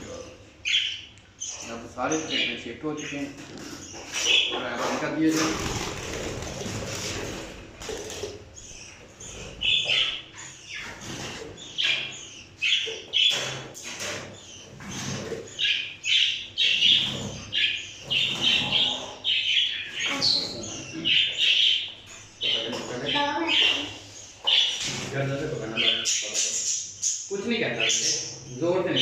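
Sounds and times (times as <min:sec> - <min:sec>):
parrots squawking and chirping: 0:00.0 - 0:29.0.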